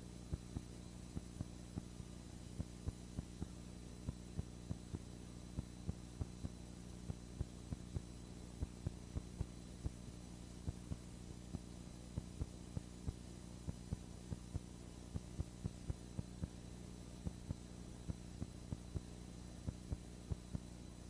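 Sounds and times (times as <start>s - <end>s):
electrical hum with hiss: 0.0s - 21.0s.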